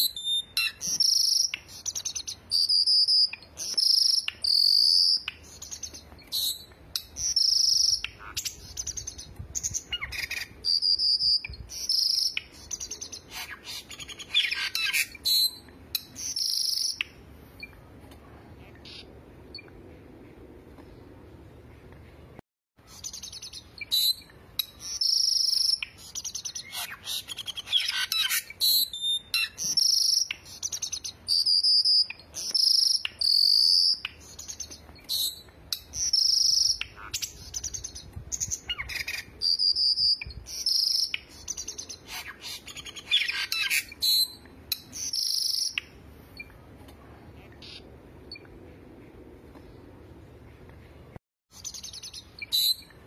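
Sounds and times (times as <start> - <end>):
songbirds singing: 0.0 - 17.9, 22.8 - 46.6, 47.3 - 53.0.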